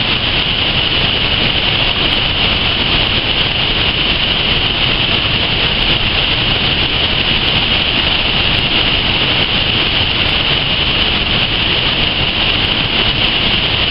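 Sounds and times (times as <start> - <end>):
river water rushing: 0.0 - 13.9.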